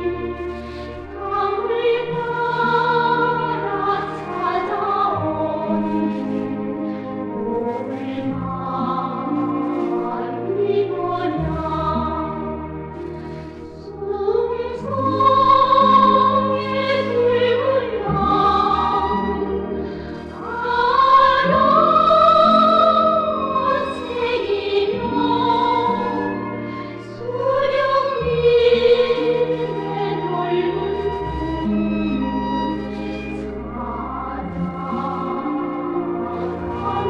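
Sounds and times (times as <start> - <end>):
operatic singing: 0.0 - 37.0
orchestral accompaniment: 0.0 - 37.0.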